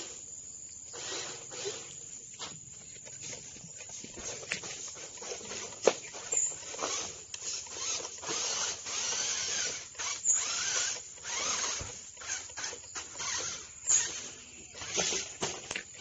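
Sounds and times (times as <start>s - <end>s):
toy car motor whining: 0.9s - 2.0s, 4.2s - 16.0s.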